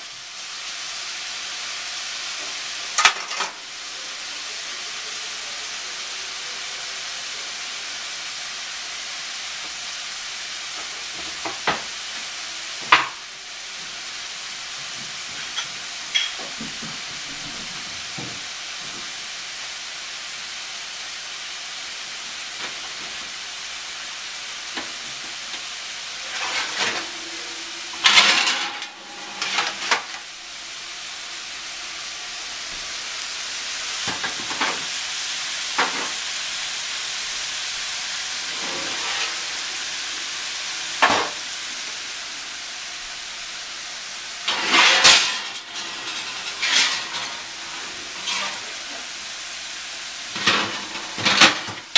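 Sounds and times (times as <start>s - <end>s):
food sizzling in a pan: 0.0s - 51.9s.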